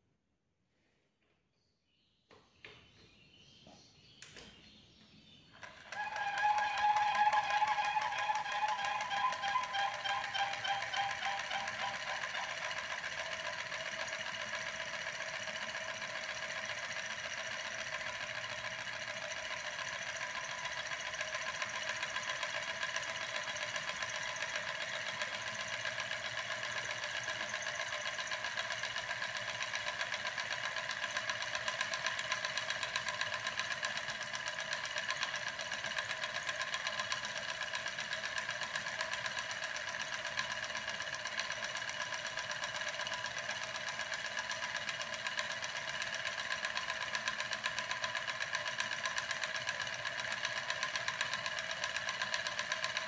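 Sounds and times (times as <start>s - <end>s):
small steam engine clattering: 5.6s - 53.0s.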